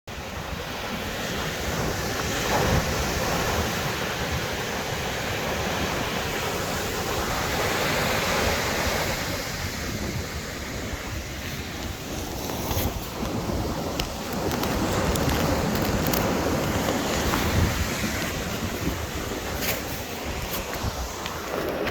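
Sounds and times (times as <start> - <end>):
ocean surf breaking: 0.1 - 21.9.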